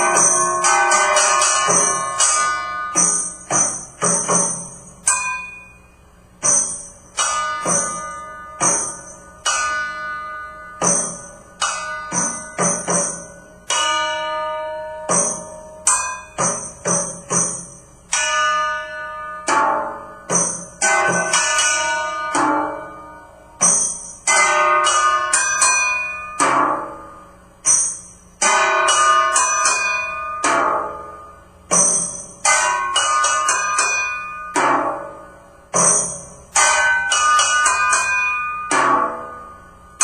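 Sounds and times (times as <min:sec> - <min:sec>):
bell-like strikes on household objects: 0:00.0 - 0:40.0.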